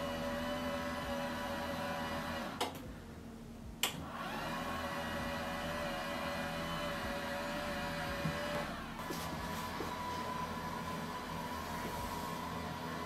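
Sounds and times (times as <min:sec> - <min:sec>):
desk motor humming: 0:00.0 - 0:02.9, 0:03.8 - 0:13.0.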